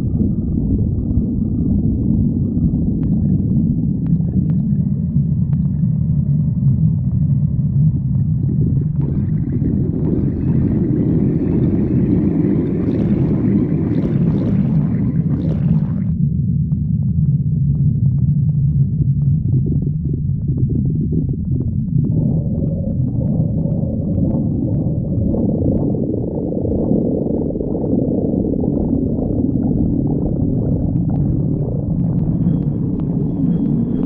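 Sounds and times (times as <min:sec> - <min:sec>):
gurgling stomach growl: 0:00.0 - 0:34.0
stomach rumbling: 0:00.0 - 0:34.0.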